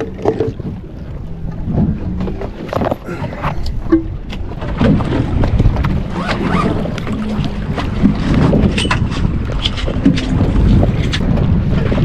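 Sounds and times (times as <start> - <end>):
water moving around boat: 0.0 - 12.0
wind buffeting microphone: 0.0 - 12.0.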